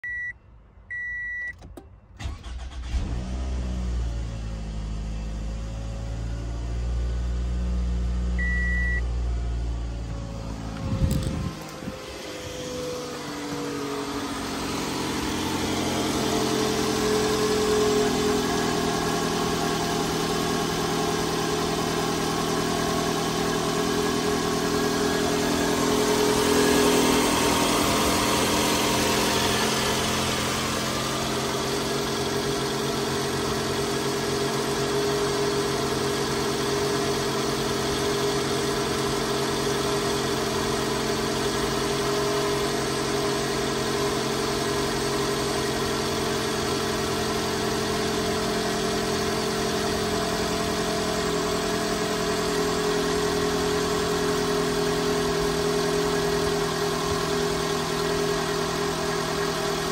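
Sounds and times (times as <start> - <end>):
car engine idling: 4.4 - 59.9.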